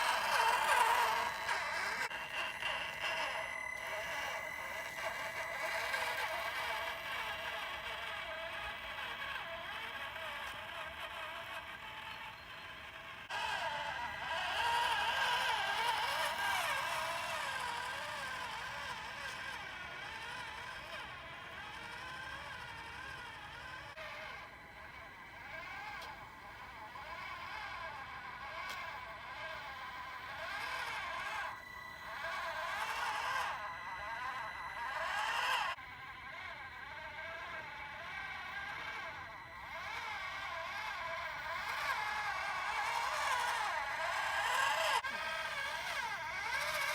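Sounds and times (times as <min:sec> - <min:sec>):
small electric motor whining: 0:00.0 - 0:46.9.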